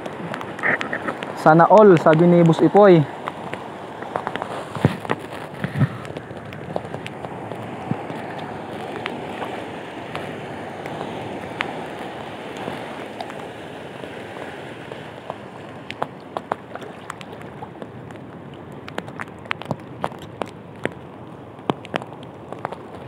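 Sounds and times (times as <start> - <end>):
choppy sea water: 0.0 - 23.0.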